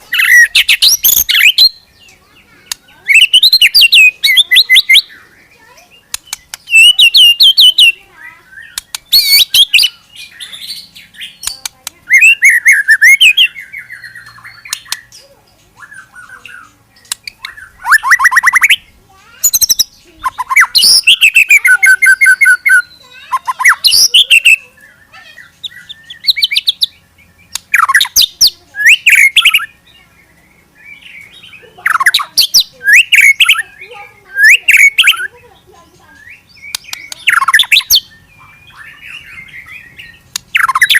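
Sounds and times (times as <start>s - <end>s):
songbird singing rapid trills: 0.0s - 40.9s.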